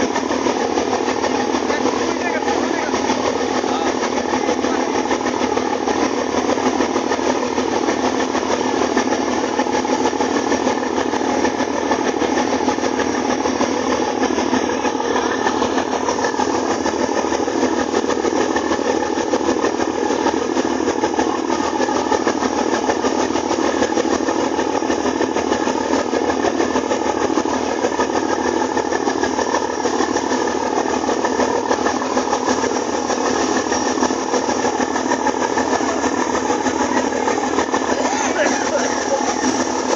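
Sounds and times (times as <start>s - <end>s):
boat engine running: 0.0s - 39.9s
churning wake water rushing: 0.0s - 39.9s.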